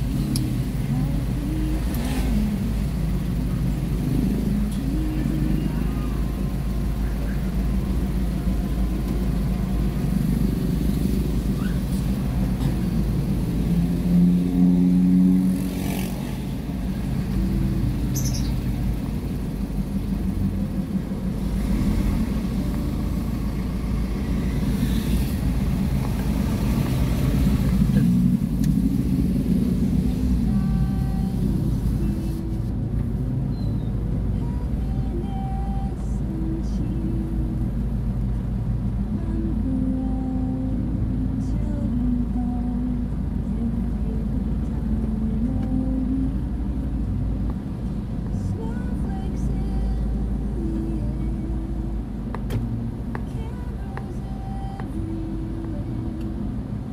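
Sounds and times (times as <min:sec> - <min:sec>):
vehicle engine and road noise: 0:00.0 - 0:56.9.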